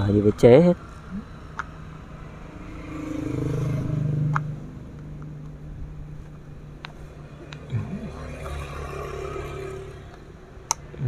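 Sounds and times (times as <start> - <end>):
engine: 0.0 - 11.0
steady low hum: 0.0 - 11.0.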